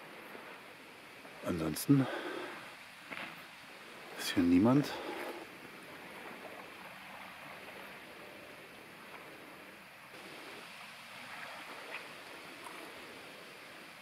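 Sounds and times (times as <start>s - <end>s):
small waves lapping: 0.0s - 14.0s.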